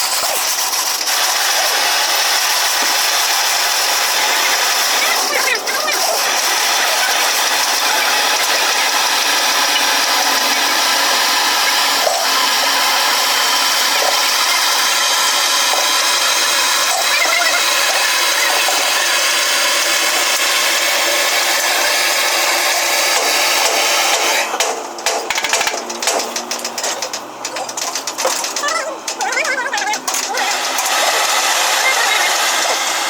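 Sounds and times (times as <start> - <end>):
power tool motor whine: 0.0 - 24.5, 30.0 - 33.0.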